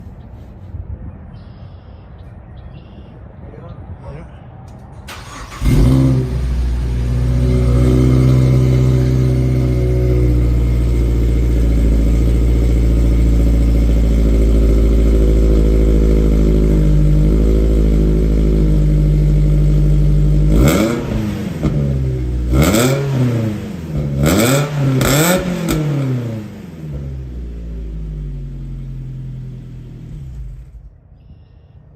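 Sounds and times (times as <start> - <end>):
car engine idling: 4.9 - 31.3
engine revving: 5.1 - 30.8.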